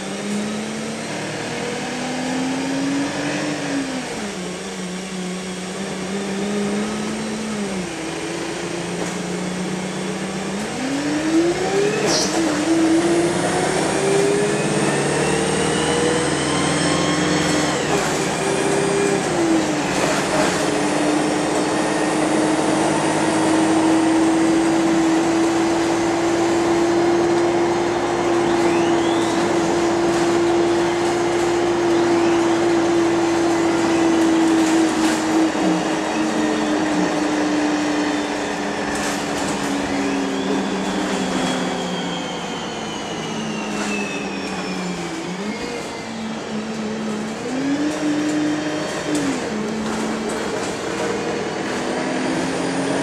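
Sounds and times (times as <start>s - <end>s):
bus diesel engine: 0.0s - 53.0s
road noise: 0.0s - 53.0s.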